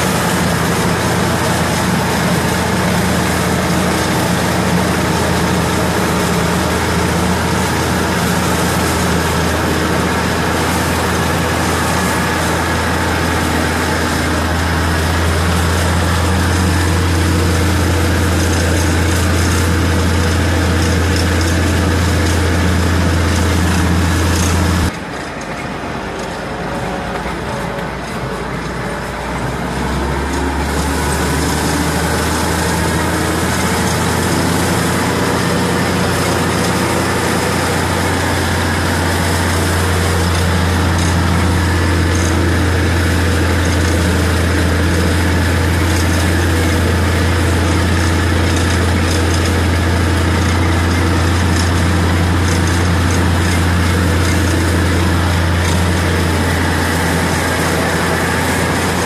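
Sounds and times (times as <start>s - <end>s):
shredder whirring: 0.0s - 59.0s
tractor engine running under load: 0.0s - 59.0s.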